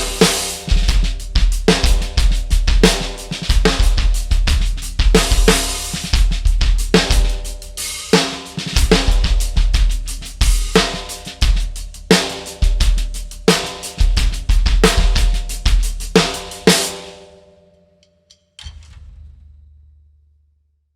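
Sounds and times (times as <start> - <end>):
hi-hat: 0.0 - 16.9
bass drum: 0.0 - 17.0
snare drum: 0.0 - 17.2.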